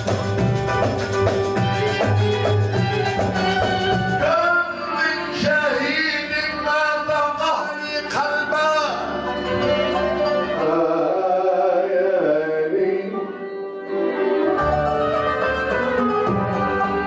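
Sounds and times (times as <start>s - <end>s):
oud and string ensemble: 0.0s - 17.0s
person singing: 1.6s - 15.7s.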